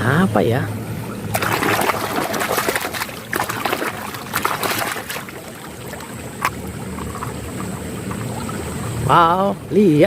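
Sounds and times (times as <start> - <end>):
water splashing and sloshing: 0.9 - 9.5.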